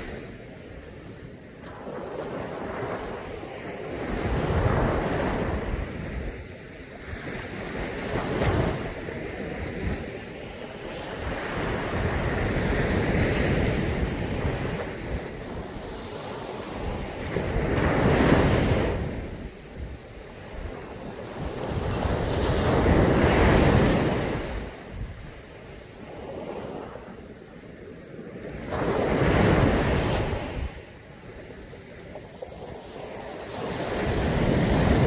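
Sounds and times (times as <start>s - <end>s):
surf breaking on a beach: 0.0s - 35.0s
wind rumbling on microphone: 0.0s - 35.0s.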